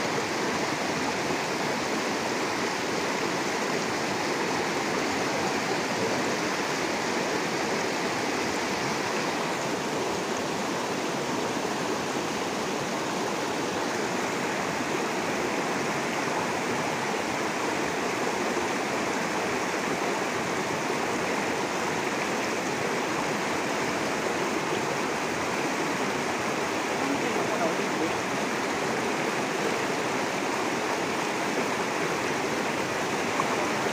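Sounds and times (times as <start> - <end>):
river water rushing over rocks: 0.0 - 33.9.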